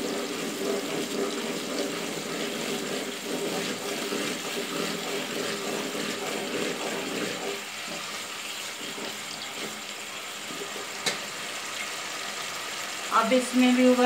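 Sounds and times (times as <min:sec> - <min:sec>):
water boiling in a pot: 0:00.0 - 0:14.0.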